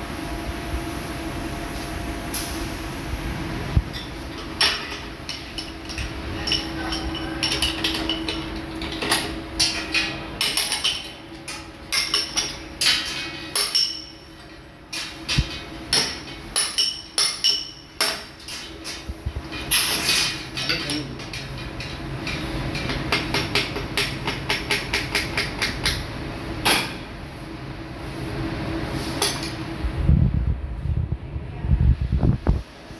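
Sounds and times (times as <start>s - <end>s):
steady machine hum: 0.0s - 32.9s.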